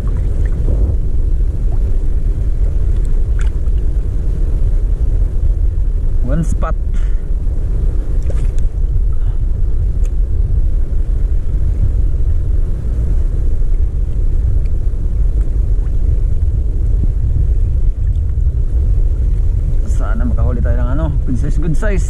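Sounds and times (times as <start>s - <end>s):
open sea: 0.0s - 22.0s
wind buffeting microphone: 0.0s - 22.0s.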